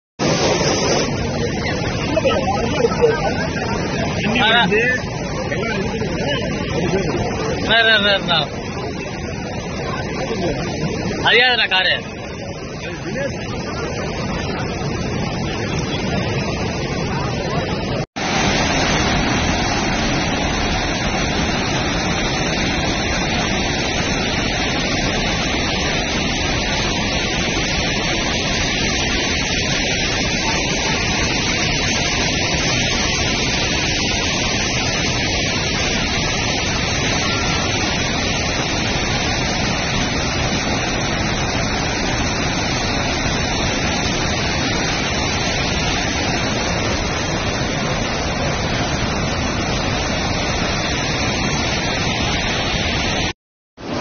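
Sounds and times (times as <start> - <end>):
floodwater rushing: 0.2 - 54.0.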